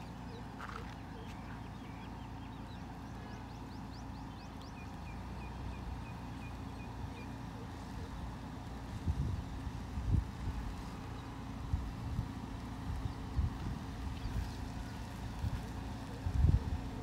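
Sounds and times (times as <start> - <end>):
birds chirping: 0.0 - 17.0
car engine running low: 0.0 - 17.0.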